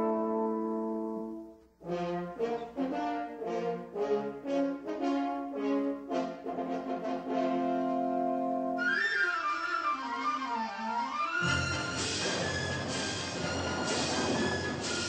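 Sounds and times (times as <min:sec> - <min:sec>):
orchestral brass music: 0:00.0 - 0:15.0.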